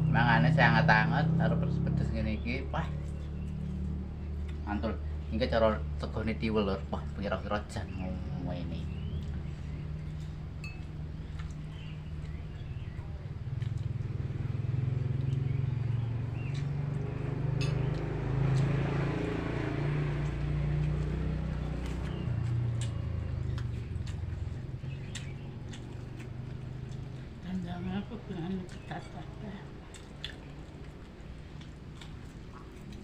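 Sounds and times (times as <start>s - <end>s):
vehicle engine passing by: 0.0s - 33.0s.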